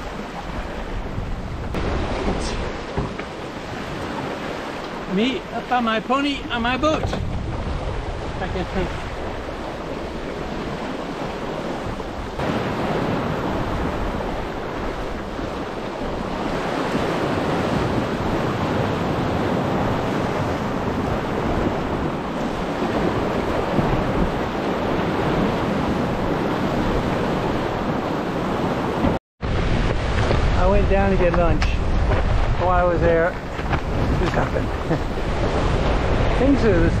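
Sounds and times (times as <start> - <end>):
water rushing and splashing: 0.0 - 37.0
wind buffeting microphone: 0.0 - 37.0.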